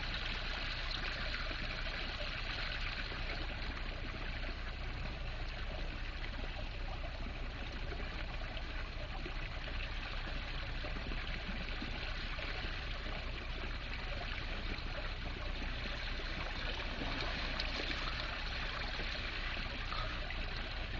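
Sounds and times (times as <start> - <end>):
water trickling and splashing: 0.0 - 20.9.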